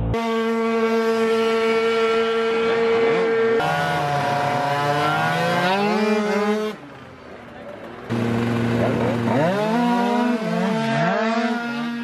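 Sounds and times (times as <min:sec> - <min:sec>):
scooter engines revving: 0:01.8 - 0:12.0.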